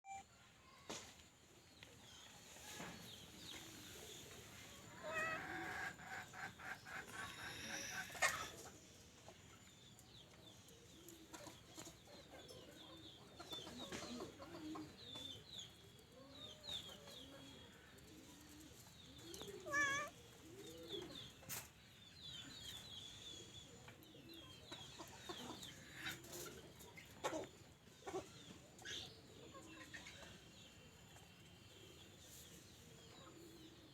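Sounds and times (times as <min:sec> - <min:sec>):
chickens clucking: 0:02.6 - 0:33.9.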